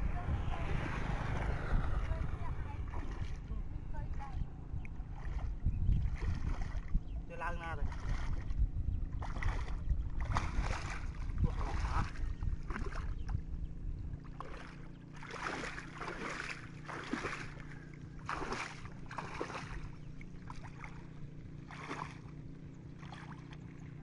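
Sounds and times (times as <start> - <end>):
steady low hum: 0.0 - 24.0
water sloshing from wading: 0.0 - 24.0.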